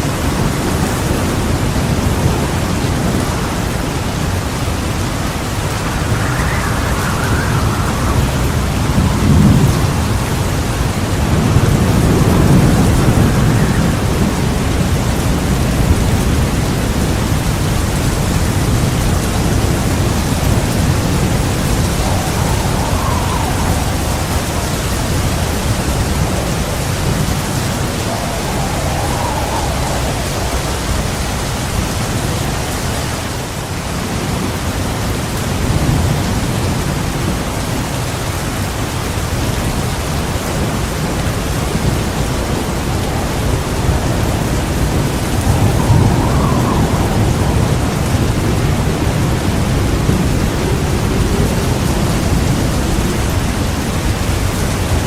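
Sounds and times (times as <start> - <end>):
heavy rain: 0.0 - 55.0
rolling thunder rumbling: 0.2 - 33.5, 35.5 - 55.0.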